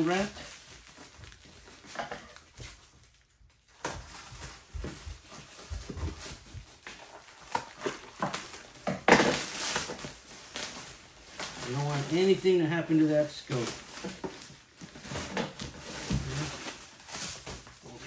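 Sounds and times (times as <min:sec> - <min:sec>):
paper wrap crinkling and tearing: 0:00.0 - 0:18.0.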